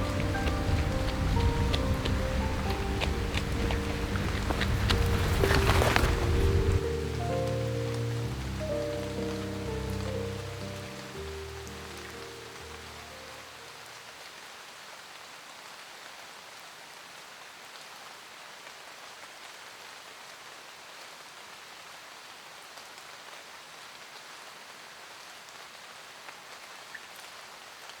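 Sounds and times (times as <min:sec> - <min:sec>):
sharp raindrops: 0:00.0 - 0:28.0
steady rain falling: 0:00.0 - 0:28.0.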